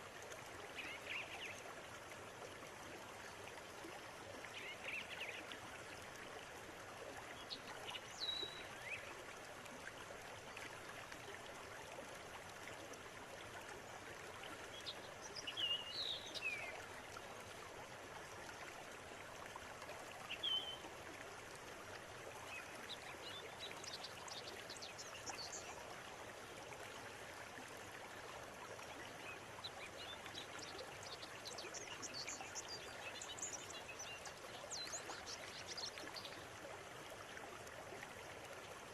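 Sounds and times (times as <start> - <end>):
river water running: 0.0 - 38.9.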